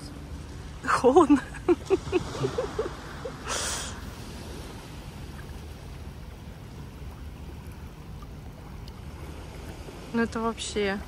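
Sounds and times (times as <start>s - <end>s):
gentle sea: 0.0s - 11.0s.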